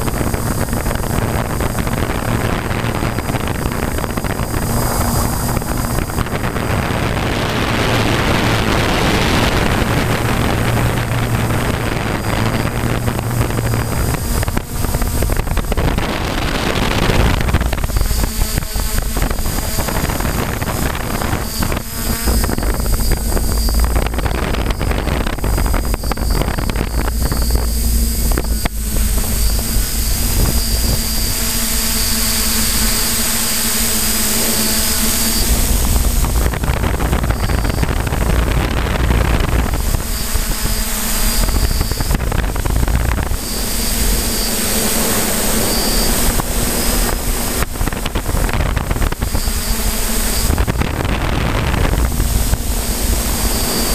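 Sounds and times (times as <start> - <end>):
heavy low rumble: 0.0 - 44.8
drone propellers whining: 0.0 - 53.9.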